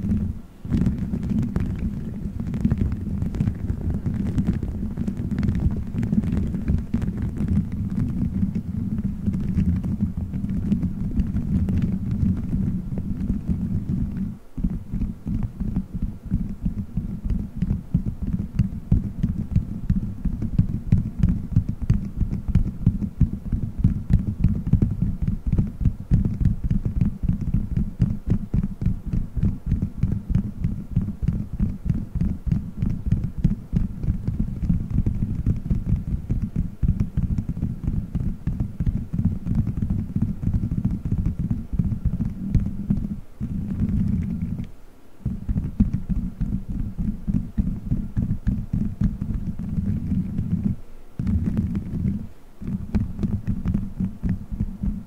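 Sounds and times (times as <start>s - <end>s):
fingertips scratching a microphone cover: 0.0s - 55.0s.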